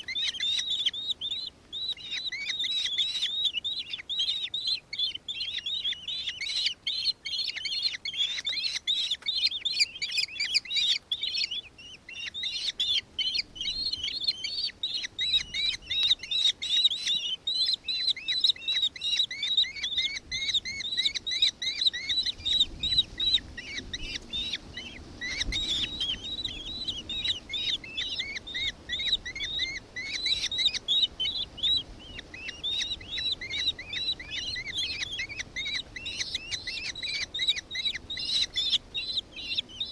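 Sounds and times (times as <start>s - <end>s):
kestrels calling: 0.0s - 39.9s.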